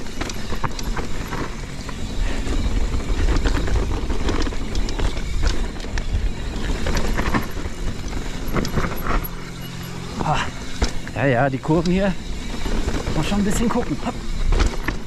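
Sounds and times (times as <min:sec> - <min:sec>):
bike rattling and clicking: 0:00.0 - 0:15.0
tyres rolling on dirt: 0:00.0 - 0:15.0.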